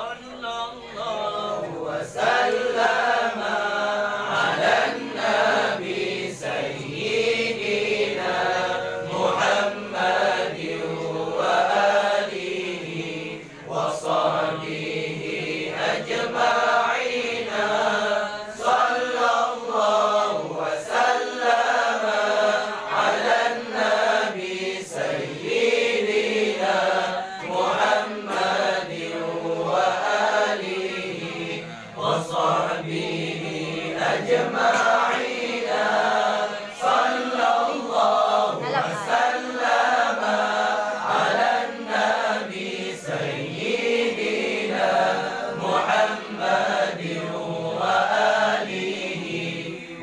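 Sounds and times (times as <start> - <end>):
men chanting in unison: 0.0 - 50.0.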